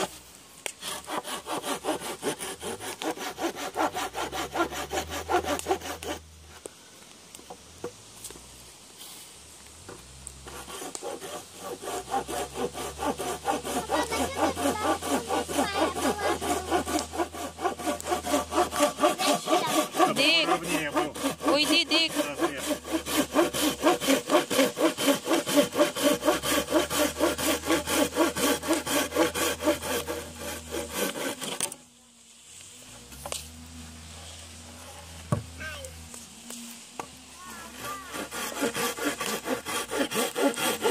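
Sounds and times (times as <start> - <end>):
hand saw cutting wood: 0.0 - 6.7, 9.8 - 31.8, 32.8 - 40.9.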